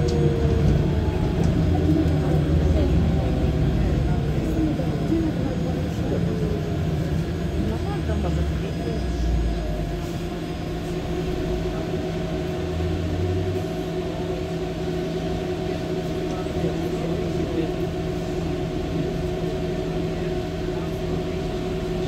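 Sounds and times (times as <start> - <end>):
bus diesel engine drone: 0.0 - 22.0
road and tyre rumble: 0.0 - 22.0.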